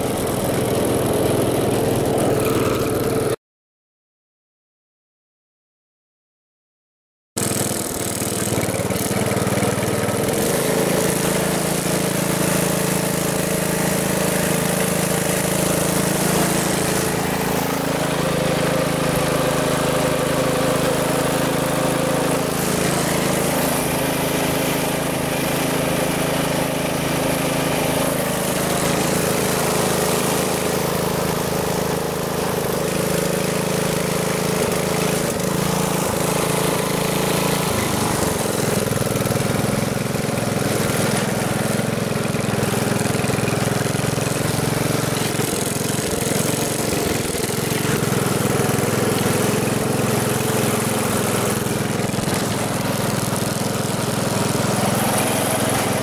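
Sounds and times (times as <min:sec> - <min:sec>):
engine running at low speed: 0:00.0 - 0:03.4, 0:07.4 - 0:56.0.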